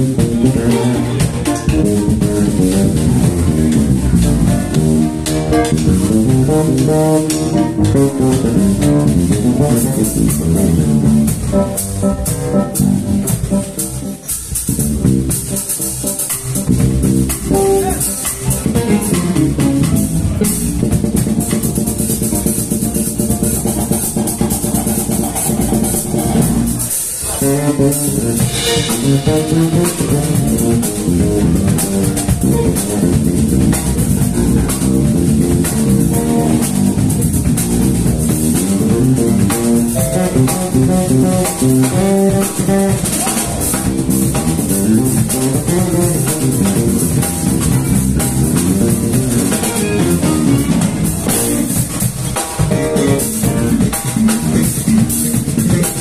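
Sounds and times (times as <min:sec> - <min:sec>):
drum kit: 0:00.0 - 0:56.0
electric bass: 0:00.0 - 0:56.0
electric guitars: 0:00.0 - 0:56.0
keyboard: 0:00.0 - 0:56.0
live jazz-funk band playing: 0:00.0 - 0:56.0.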